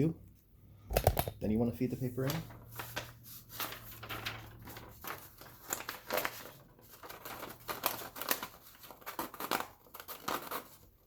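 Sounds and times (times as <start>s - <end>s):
paper rustling and crinkling: 1.8s - 11.0s.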